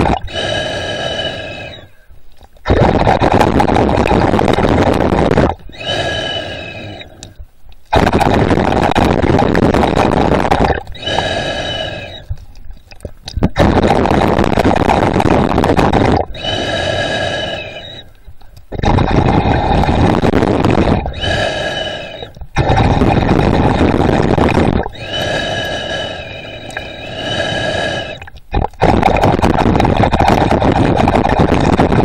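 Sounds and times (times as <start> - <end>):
breathing through a snorkel: 0.0 - 2.1, 2.7 - 12.6, 13.6 - 32.0.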